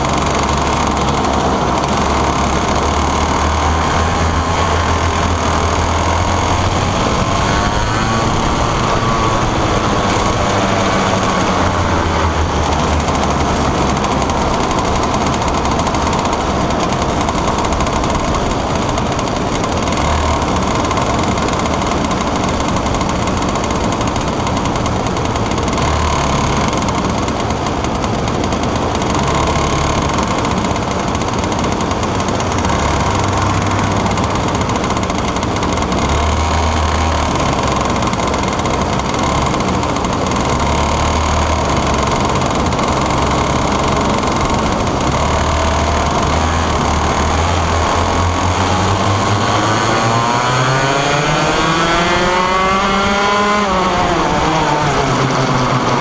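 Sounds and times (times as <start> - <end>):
two-stroke kart engine racing: 0.0 - 56.0.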